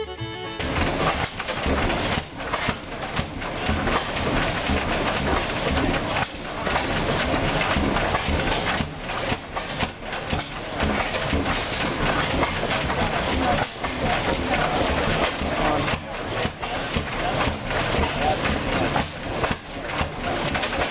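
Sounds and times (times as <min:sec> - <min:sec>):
stationary gas engine running: 0:00.6 - 0:20.9.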